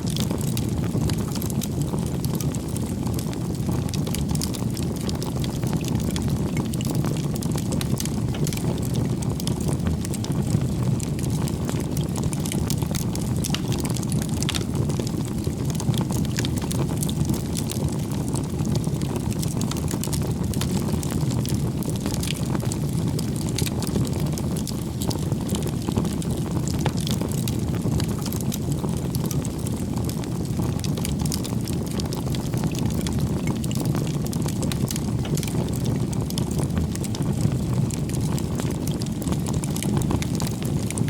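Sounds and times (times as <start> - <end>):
low rumble of flames: 0.0 - 41.0
wood crackling and popping: 0.0 - 41.0.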